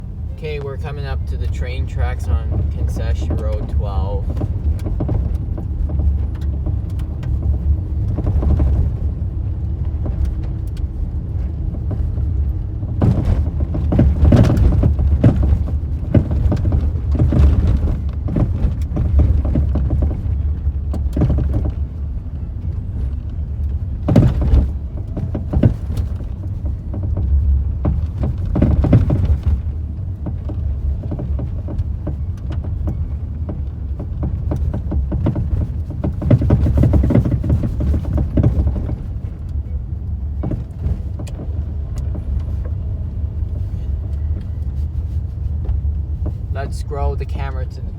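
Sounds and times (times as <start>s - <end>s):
car road rumble: 0.0s - 47.9s
car thumping over bumps: 0.0s - 47.9s.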